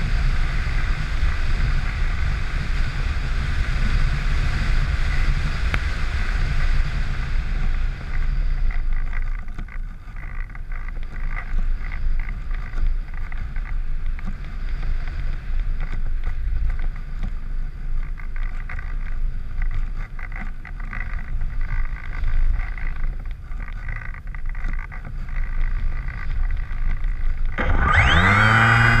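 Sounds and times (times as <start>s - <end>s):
electric motor and propeller buzzing: 0.0s - 29.0s
wind rushing over microphone: 0.0s - 29.0s.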